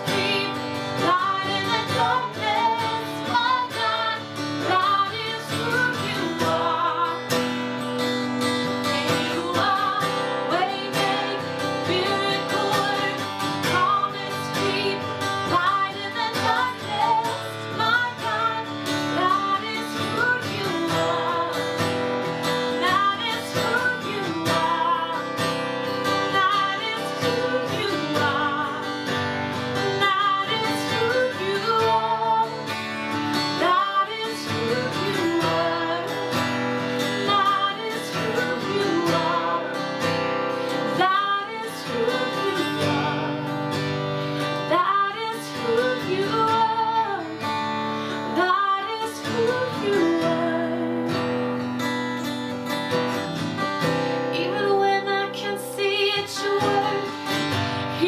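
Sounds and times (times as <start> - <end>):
person singing: 0.0 - 7.6, 8.7 - 22.0, 22.6 - 29.2, 29.8 - 43.6, 44.4 - 51.6, 54.3 - 58.0
strummed acoustic guitar: 0.0 - 58.0.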